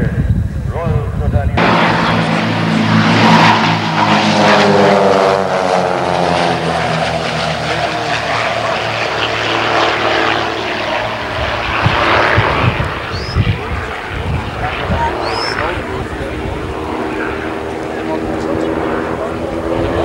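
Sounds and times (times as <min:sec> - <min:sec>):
propeller planes droning past: 0:00.7 - 0:20.0.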